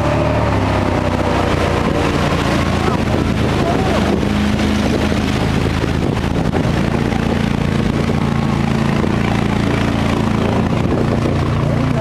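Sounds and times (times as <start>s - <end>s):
truck engine running hard: 0.0s - 12.0s.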